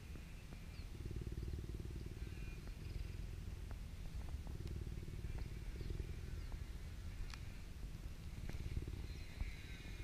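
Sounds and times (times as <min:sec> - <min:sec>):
cheetah purring: 0:00.0 - 0:10.0.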